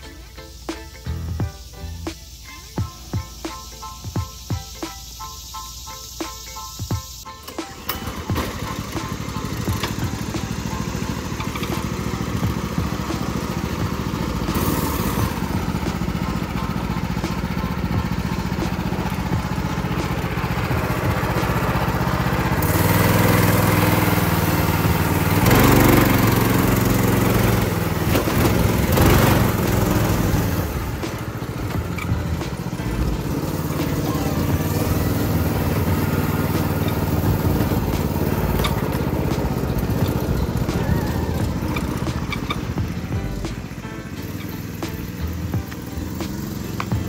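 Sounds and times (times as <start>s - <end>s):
go-kart engine revving: 7.6s - 47.0s.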